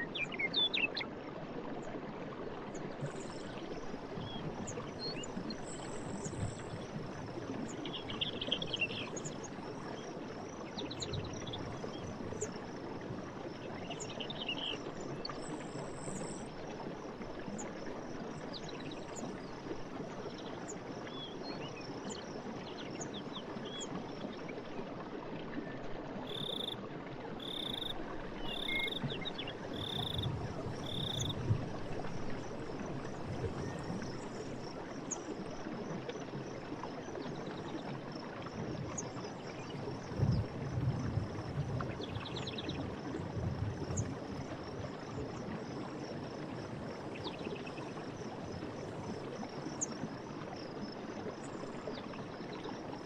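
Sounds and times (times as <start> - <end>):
stream rushing and gurgling: 0.0 - 53.0.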